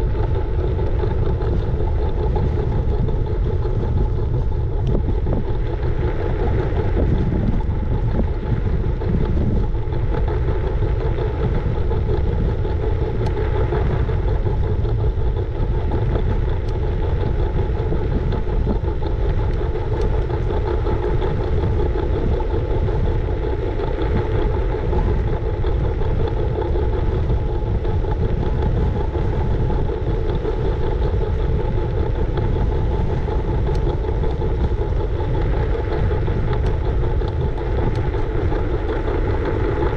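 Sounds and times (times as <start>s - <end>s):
faint steady hum: 0.0s - 39.9s
scooter rolling noise: 0.0s - 39.9s
wind buffeting microphone: 0.0s - 39.9s.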